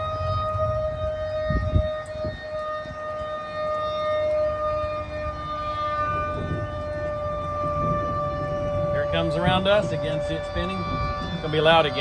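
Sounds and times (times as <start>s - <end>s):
warning siren steady tone: 0.0s - 12.0s.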